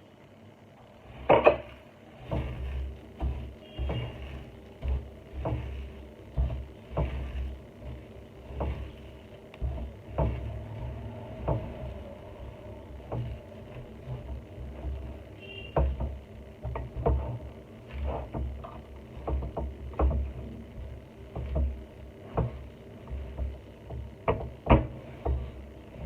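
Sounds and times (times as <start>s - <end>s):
faint steady hum: 0.0s - 26.0s
knocks and thumps of utensils: 1.2s - 26.0s.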